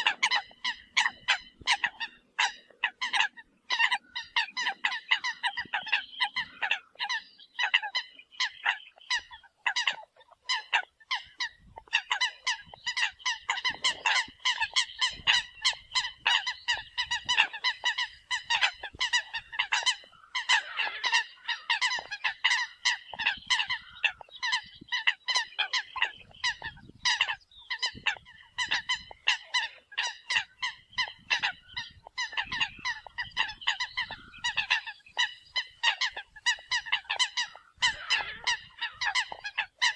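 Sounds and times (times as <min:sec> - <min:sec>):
coot honking calls: 0:00.0 - 0:39.9.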